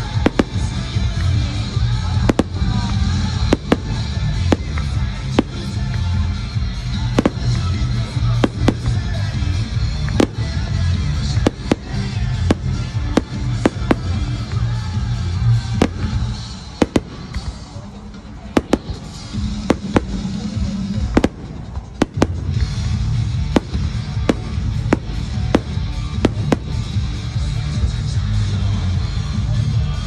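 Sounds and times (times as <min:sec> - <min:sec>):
fireworks bursting: 0:00.0 - 0:29.4
music playing: 0:00.0 - 0:30.0.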